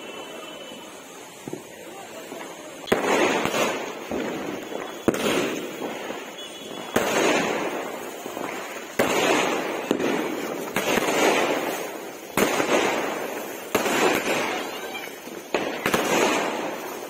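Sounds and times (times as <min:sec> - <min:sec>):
firework bangs: 0:00.0 - 0:17.0
firework spark crackle: 0:00.0 - 0:17.0.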